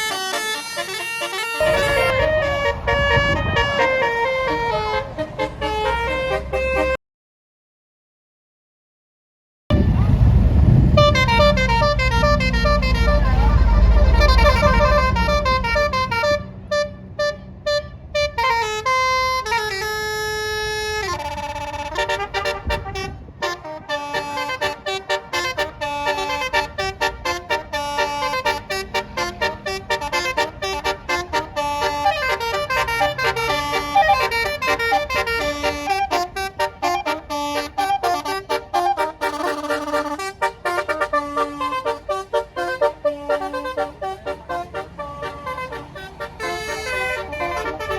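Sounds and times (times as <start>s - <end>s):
bus engine rumble: 0.0s - 7.0s, 9.7s - 47.9s
musical air horn playing tune: 0.0s - 7.0s, 10.9s - 47.9s.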